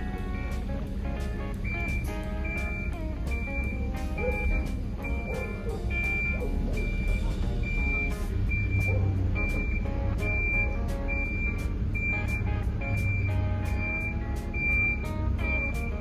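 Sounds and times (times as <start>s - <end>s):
reversing alarm beeping: 0.0s - 0.8s, 1.5s - 16.0s
low engine hum: 0.0s - 16.0s.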